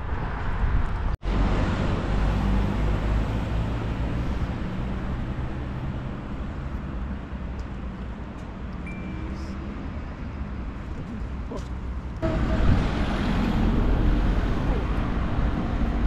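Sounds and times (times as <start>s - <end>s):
road traffic rumble: 0.0s - 16.0s
vehicle engine hum: 0.0s - 16.0s.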